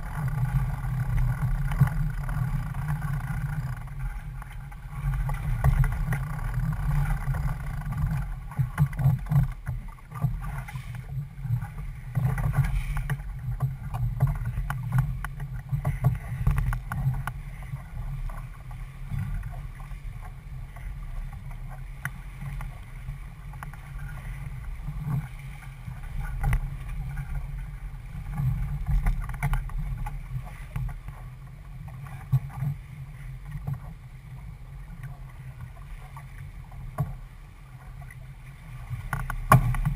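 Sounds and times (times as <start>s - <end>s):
wind buffeting microphone: 0.0s - 37.4s
choppy water slapping hull: 0.0s - 39.9s.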